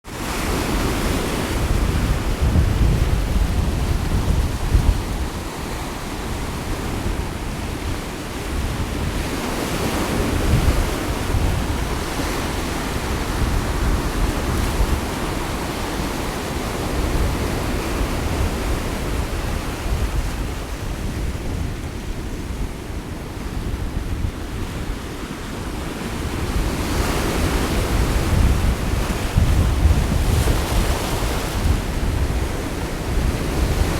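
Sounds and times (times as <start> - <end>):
sea waves washing on shore: 0.1 - 33.9
wind buffeting microphone: 0.2 - 33.9.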